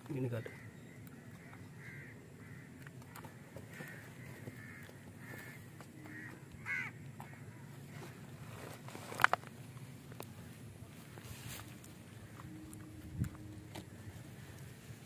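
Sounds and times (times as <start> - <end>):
bird calling: 0.0 - 9.0, 10.8 - 15.0.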